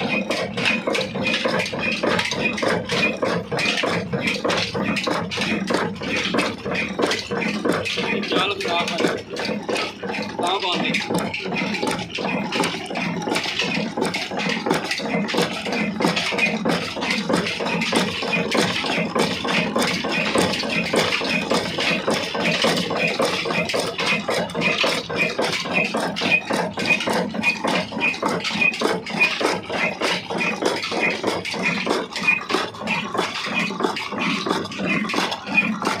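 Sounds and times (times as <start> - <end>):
diesel engine clattering: 0.0 - 36.0.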